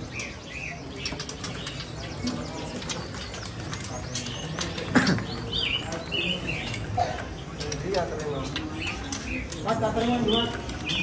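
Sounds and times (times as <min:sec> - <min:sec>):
birds fluttering wings: 0:00.0 - 0:11.0.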